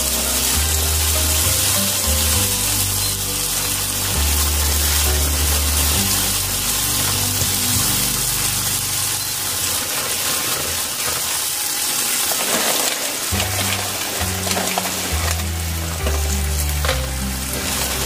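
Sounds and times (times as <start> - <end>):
low music: 0.0 - 10.7, 13.2 - 18.0
peanuts sizzling and bubbling in pan: 0.0 - 18.0.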